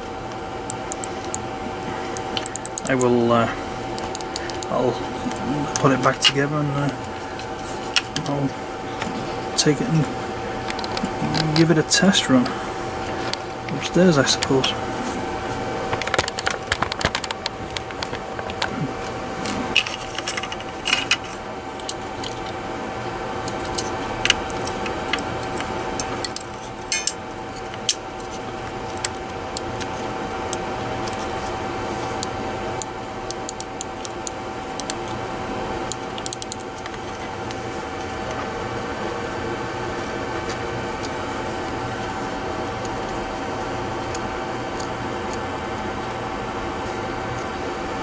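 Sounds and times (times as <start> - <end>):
steady background hum: 0.0 - 48.0.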